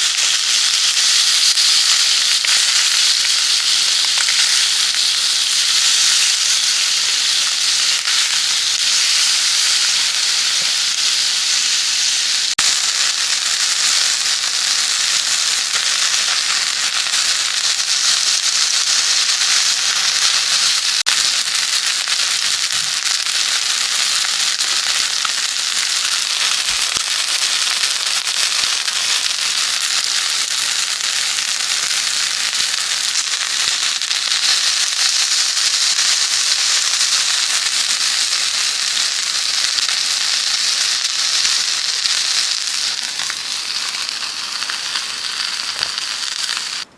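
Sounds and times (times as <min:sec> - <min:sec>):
food sizzling and crackling: 0:00.0 - 0:46.9.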